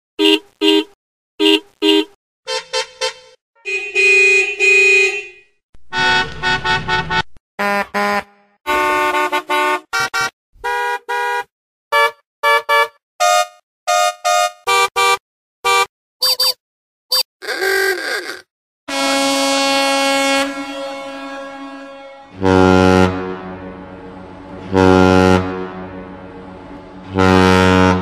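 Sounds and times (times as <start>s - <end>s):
car horn honking: 0.2s - 16.4s, 18.9s - 28.0s.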